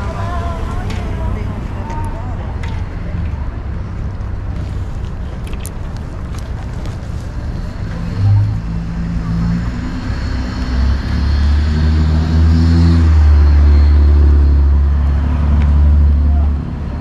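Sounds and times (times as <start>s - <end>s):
cars passing on street: 0.0s - 17.0s
vehicle engine rumble: 0.0s - 17.0s.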